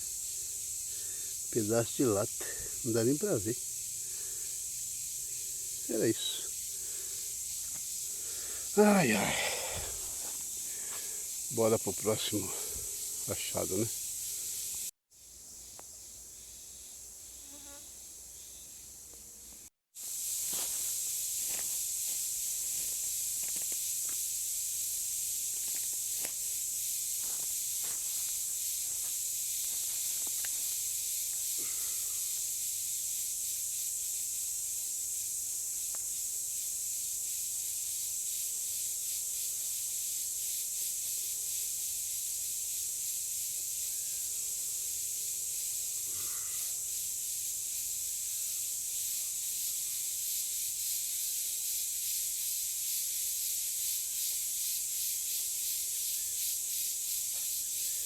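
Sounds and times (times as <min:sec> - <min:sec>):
faint insect chirps and clicks: 0:00.0 - 0:08.9, 0:09.9 - 0:58.0
insect chorus: 0:00.0 - 0:58.0.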